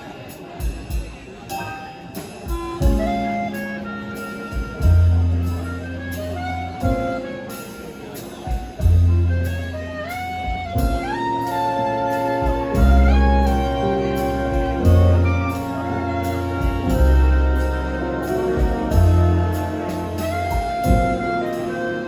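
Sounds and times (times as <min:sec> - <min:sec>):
orchestra playing: 0:01.6 - 0:22.0
strong low held notes: 0:02.8 - 0:22.0.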